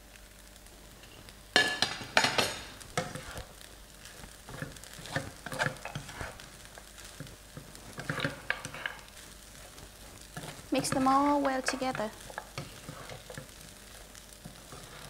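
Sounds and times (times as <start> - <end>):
faint sizzle: 0.0 - 15.0
utensil scraping a pan: 1.7 - 3.5, 4.5 - 15.0.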